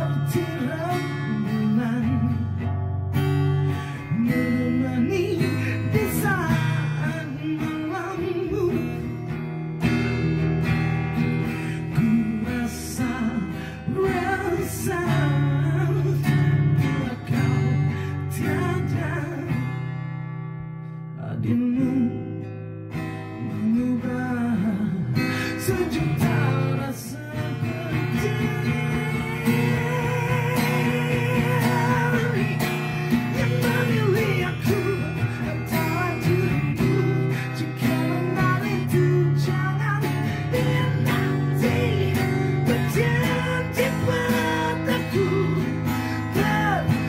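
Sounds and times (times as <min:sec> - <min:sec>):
guitar strumming chords: 0:00.0 - 0:47.0.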